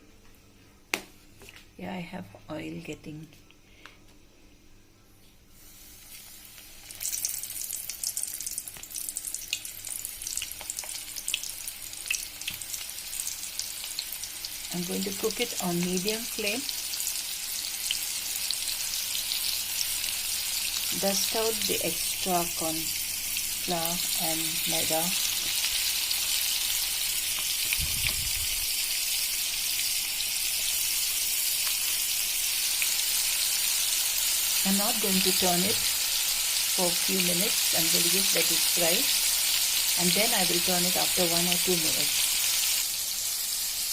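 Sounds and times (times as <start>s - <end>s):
chicken deep-frying in oil: 5.6s - 43.9s.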